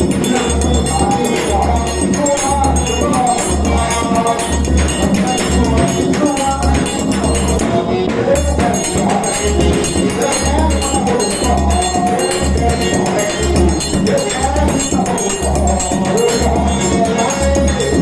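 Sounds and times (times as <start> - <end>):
dance music with singing: 0.0 - 18.0
thumping bass beat: 0.0 - 18.0.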